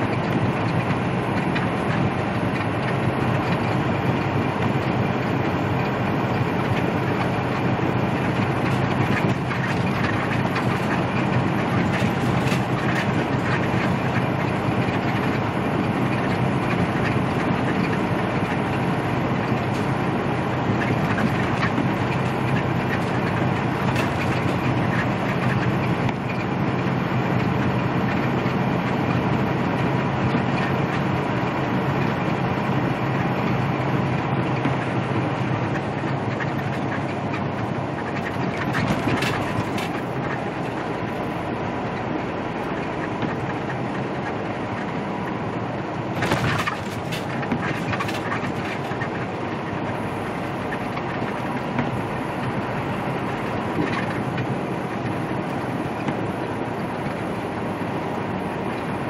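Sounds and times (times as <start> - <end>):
cab rattles and clicks: 0.0 - 59.0
truck engine hum: 0.0 - 59.0
tyre noise on a wet road: 0.0 - 59.0.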